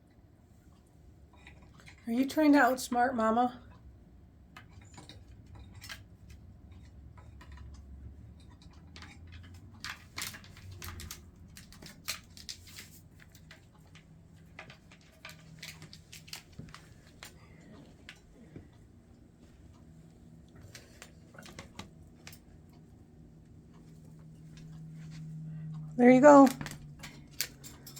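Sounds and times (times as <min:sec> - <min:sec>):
faint low hum: 0:00.0 - 0:27.9.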